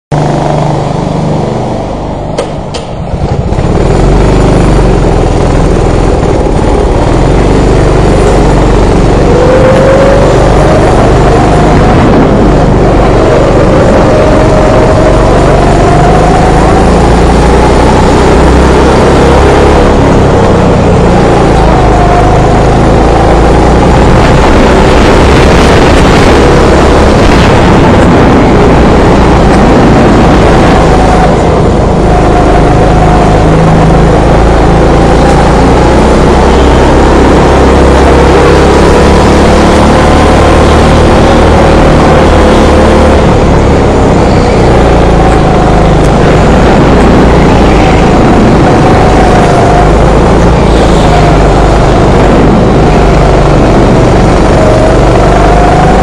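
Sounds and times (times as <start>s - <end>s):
go-kart engine running hard: 0.1s - 56.0s
heavy rushing noise: 0.1s - 56.0s.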